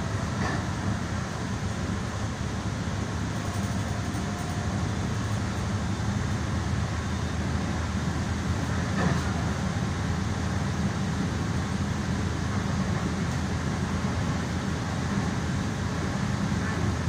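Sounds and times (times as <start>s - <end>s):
train car rumbling: 0.0s - 17.0s.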